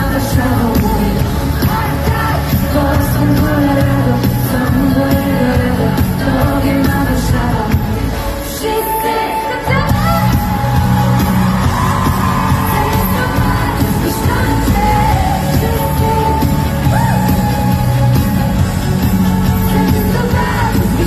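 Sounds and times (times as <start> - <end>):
woman singing: 0.0 - 18.2, 19.2 - 21.0
live pop band through speakers: 0.0 - 21.0.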